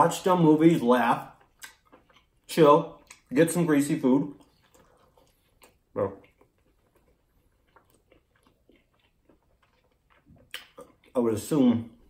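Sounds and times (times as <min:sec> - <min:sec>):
man chewing food: 0:00.2 - 0:12.0.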